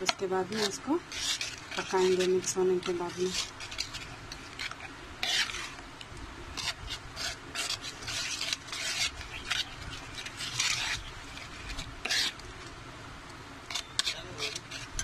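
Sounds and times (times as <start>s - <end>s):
spoon scraping a pan: 0.0s - 5.8s, 6.6s - 12.5s, 13.7s - 15.0s.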